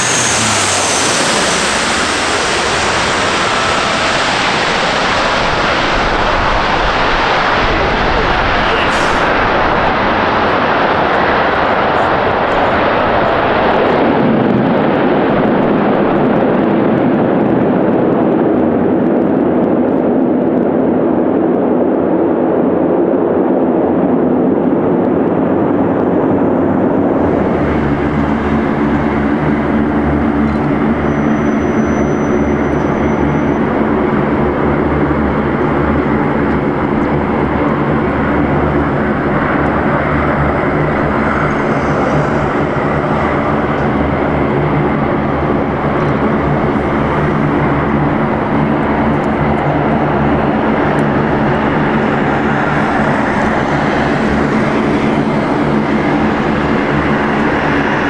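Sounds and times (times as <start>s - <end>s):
turboprop aircraft landing: 0.0s - 58.0s
turboprop aircraft taxiing drone: 0.0s - 58.0s.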